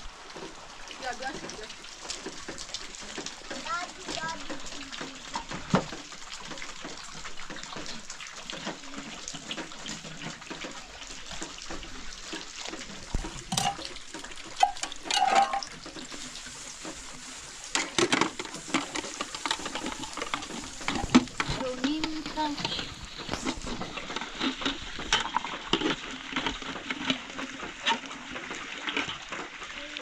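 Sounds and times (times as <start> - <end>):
water splashing: 0.0 - 30.0.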